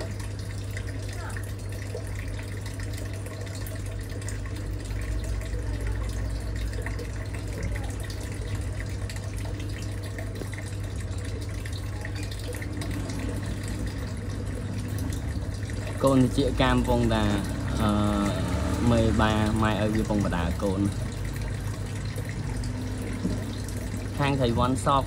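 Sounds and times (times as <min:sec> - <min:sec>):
low pump hum: 0:00.0 - 0:25.0
water bubbling in aquarium: 0:00.0 - 0:25.0.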